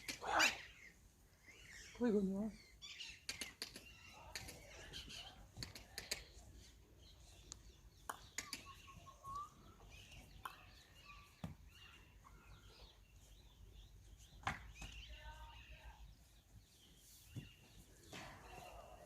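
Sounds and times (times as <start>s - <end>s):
distant bird chirps: 0.0s - 19.0s.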